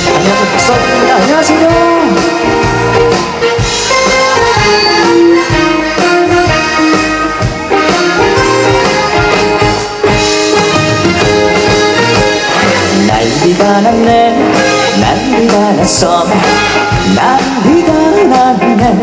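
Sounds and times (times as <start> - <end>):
brass-like lead melody: 0.0 - 18.8
band accompaniment: 0.0 - 19.0.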